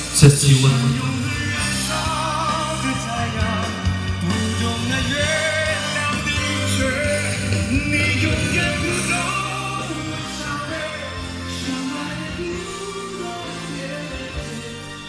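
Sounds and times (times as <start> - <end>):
heavy bass line: 0.0 - 15.0
loud song over loudspeakers: 0.0 - 15.0.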